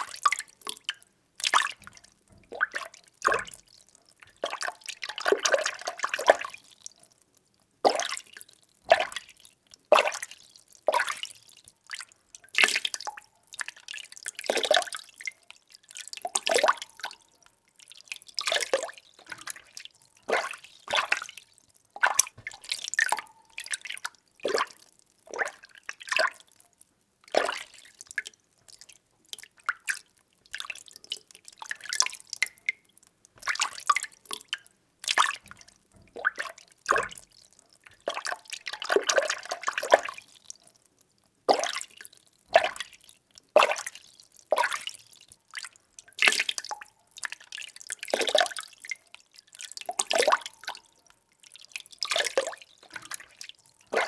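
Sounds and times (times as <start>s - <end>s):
water sloshing in a container: 0.0s - 7.0s, 7.8s - 26.6s, 27.2s - 40.8s, 41.4s - 54.0s.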